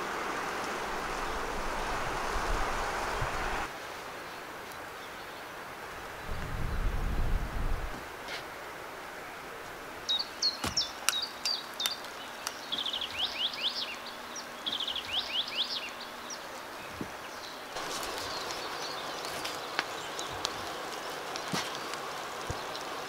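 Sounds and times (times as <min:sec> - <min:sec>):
songbird singing: 0:00.0 - 0:07.3, 0:09.6 - 0:23.0.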